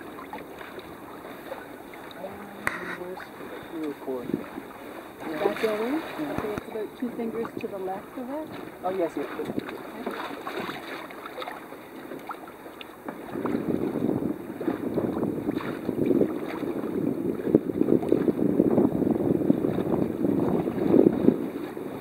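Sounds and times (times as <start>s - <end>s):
wind buffeting microphone: 0.0s - 11.0s, 13.0s - 22.0s
water noise: 0.0s - 22.0s.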